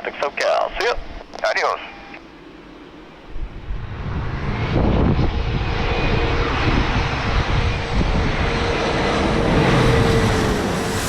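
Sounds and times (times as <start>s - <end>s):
jet engine whine: 0.0s - 11.0s
jet engines roaring overhead: 0.0s - 11.0s.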